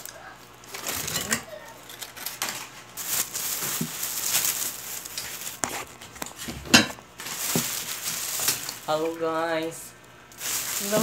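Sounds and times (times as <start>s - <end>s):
foil and plastic bag crinkling: 0.0s - 11.0s.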